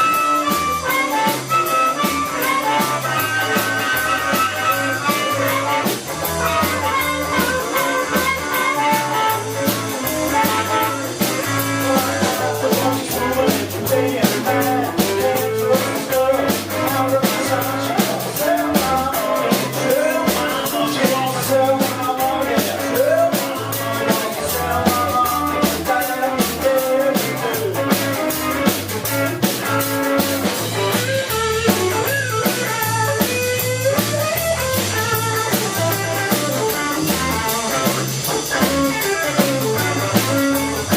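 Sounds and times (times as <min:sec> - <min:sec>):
drum kit beat: 0:00.0 - 0:40.9
electric guitar: 0:00.0 - 0:40.9
walking bass line: 0:00.0 - 0:40.9.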